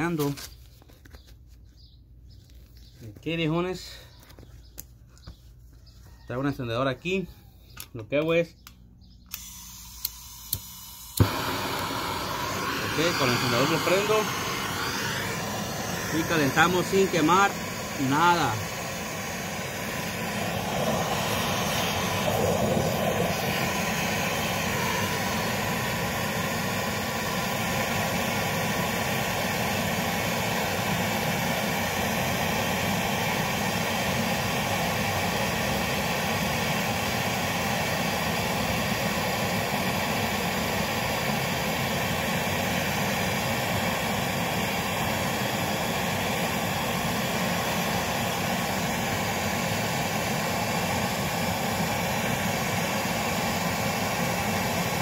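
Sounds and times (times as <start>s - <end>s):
gas torch hissing: 9.3s - 55.0s.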